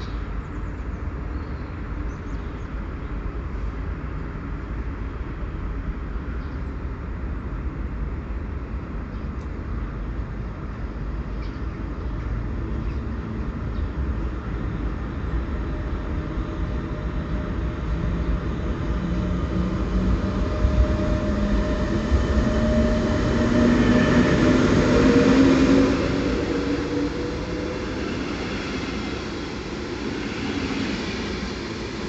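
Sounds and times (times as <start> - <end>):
steady train hum: 0.0 - 32.0
train rumble: 0.0 - 32.0.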